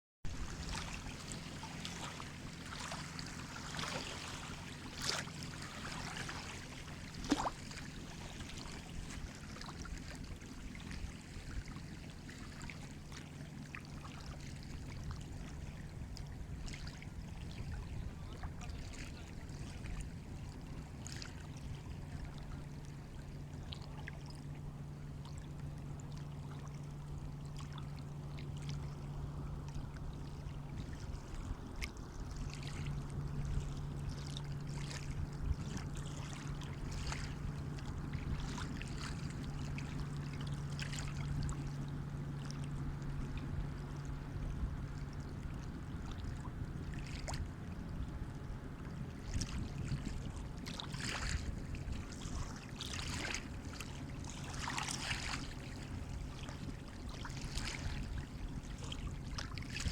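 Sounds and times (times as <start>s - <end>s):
low hum: 0.3s - 59.9s.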